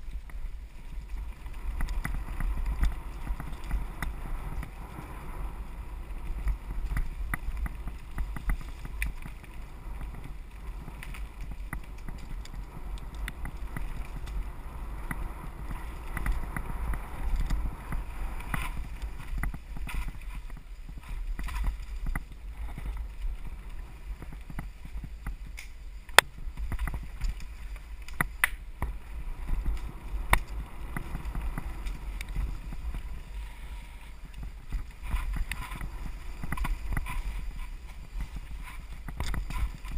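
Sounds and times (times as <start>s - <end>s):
bike rattles and clicks: 0.0s - 39.9s
wind and ground rumble: 0.0s - 39.9s.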